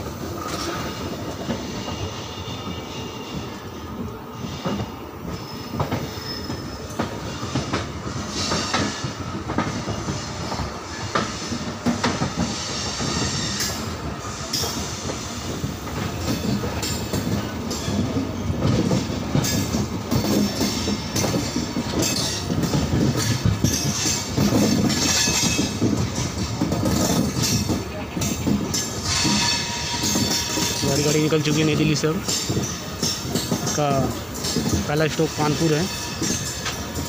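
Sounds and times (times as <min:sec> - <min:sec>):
train coach rumbling: 0:00.0 - 0:37.0.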